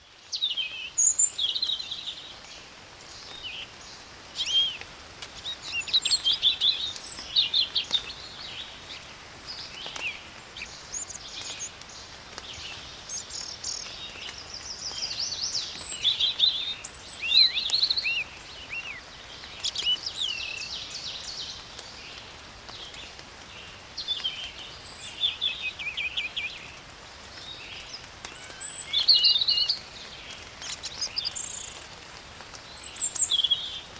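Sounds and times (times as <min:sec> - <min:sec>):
rain hiss: 0:00.0 - 0:33.9
songbirds singing: 0:00.0 - 0:33.9.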